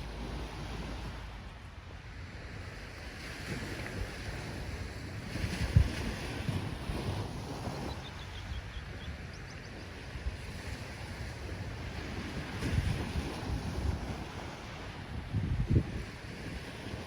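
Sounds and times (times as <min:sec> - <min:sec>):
waves breaking: 0:00.0 - 0:17.0
wind rumbling on microphone: 0:00.0 - 0:17.0.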